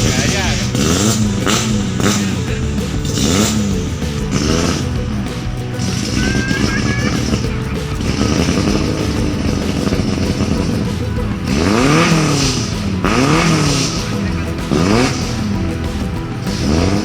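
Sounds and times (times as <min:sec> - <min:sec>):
jeep engine revving: 0:00.0 - 0:17.0.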